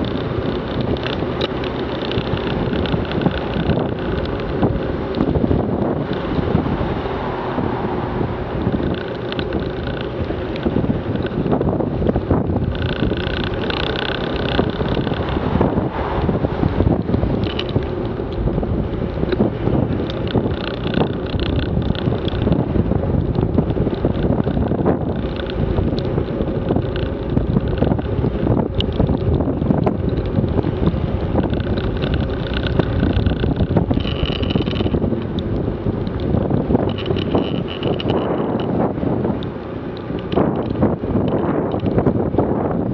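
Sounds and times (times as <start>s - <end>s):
motorcycle engine: 0.0s - 42.9s
road noise: 0.0s - 42.9s
wind buffeting microphone: 0.0s - 42.9s.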